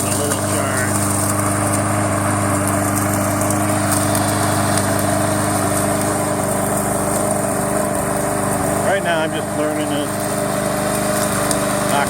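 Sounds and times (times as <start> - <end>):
lawn mower engine droning: 0.0 - 12.0
thin high whine: 0.0 - 12.0.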